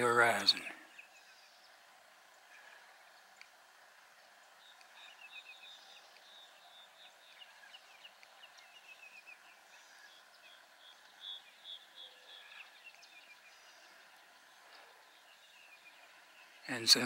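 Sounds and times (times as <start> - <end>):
birds calling and twittering: 0.0 - 17.0.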